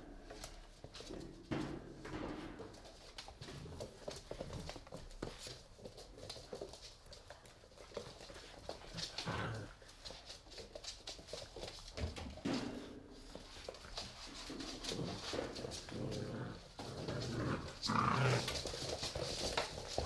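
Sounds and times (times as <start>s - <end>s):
paws tapping on floor: 0.0s - 20.0s
puppies scuffling: 0.0s - 20.0s.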